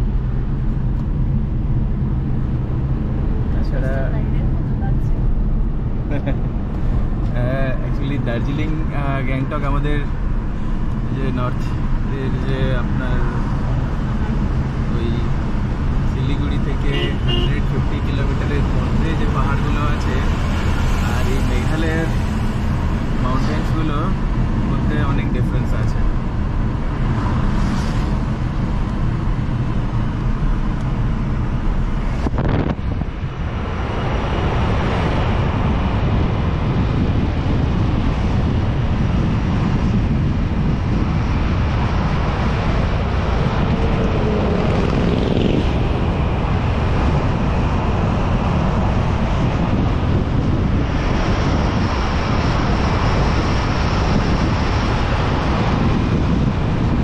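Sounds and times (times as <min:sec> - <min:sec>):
car tyre and road noise: 0:00.0 - 0:57.0
wind blowing on microphone: 0:10.1 - 0:57.0.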